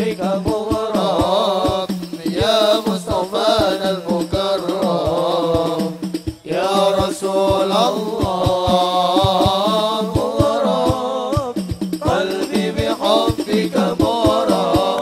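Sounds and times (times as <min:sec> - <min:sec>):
hand drums beat: 0:00.0 - 0:15.0
men singing in unison: 0:00.0 - 0:15.0.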